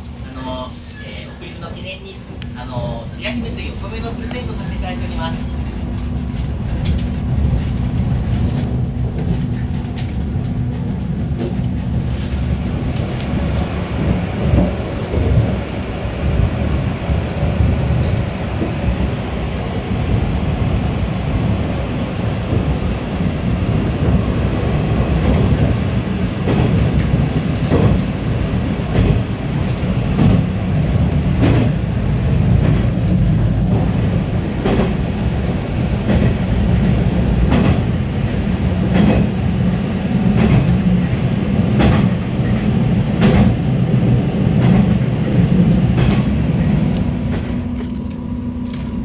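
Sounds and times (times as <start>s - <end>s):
train rumble: 0.0s - 49.0s
train wheels clacking: 1.6s - 20.3s, 22.2s - 49.0s.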